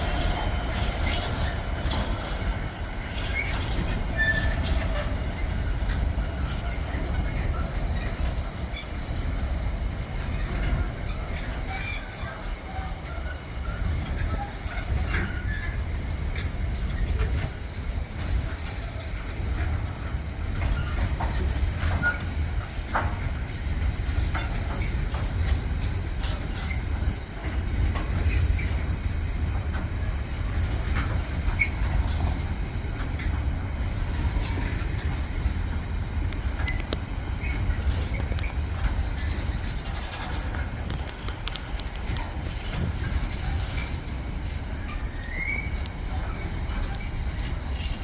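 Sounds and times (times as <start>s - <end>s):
freight train rumbling past: 0.0s - 48.0s
train wheel clicks: 0.0s - 48.0s
wheels squealing on rails: 0.0s - 48.0s.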